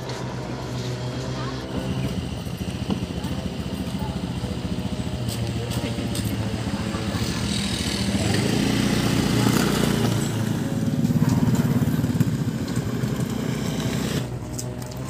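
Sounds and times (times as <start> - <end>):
scooter engine accelerating: 0.0 - 15.0.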